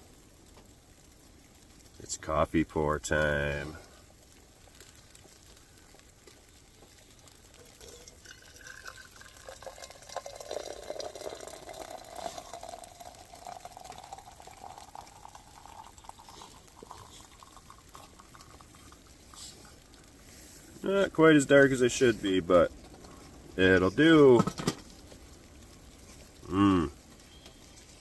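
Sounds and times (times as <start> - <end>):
coffee pouring into a mug: 2.0 - 25.0.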